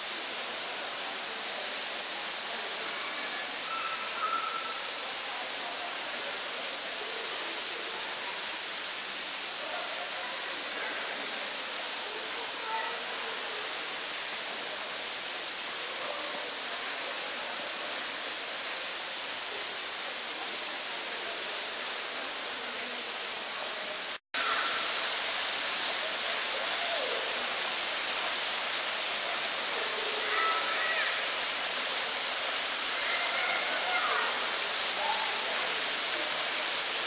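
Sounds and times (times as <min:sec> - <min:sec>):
small waterfall splashing into pond: 0:00.0 - 0:37.0.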